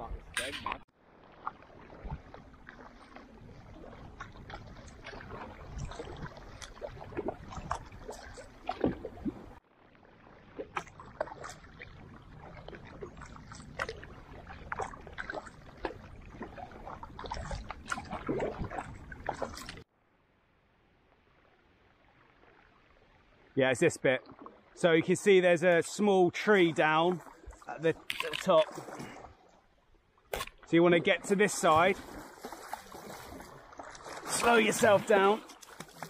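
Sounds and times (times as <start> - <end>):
paddle splashes and drips: 0.4 - 19.9, 21.4 - 36.0
water washing along hull: 0.7 - 19.9, 24.1 - 36.0.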